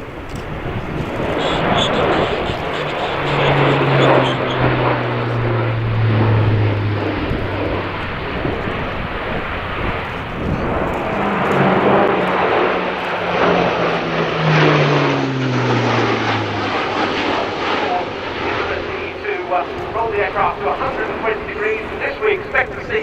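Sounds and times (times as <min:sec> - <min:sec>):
turboprop aircraft engines roaring: 0:00.0 - 0:23.0.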